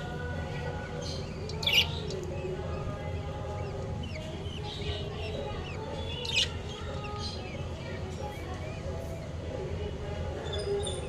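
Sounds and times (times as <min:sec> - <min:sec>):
baby parrots chirping: 0:00.0 - 0:09.6, 0:10.2 - 0:11.0.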